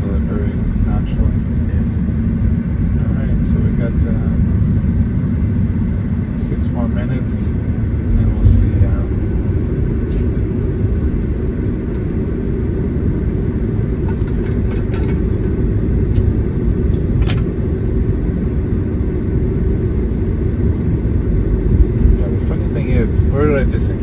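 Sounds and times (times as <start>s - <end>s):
road and tyre rumble in car: 0.0s - 24.0s.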